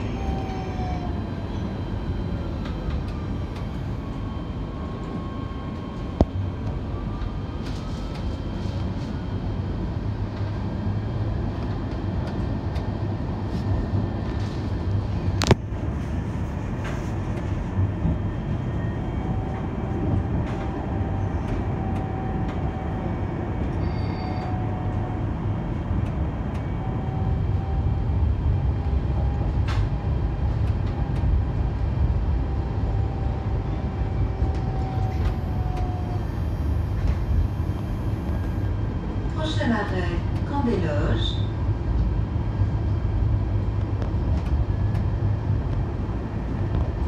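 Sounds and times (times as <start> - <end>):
tram wheels rumbling on rail: 0.0 - 47.0.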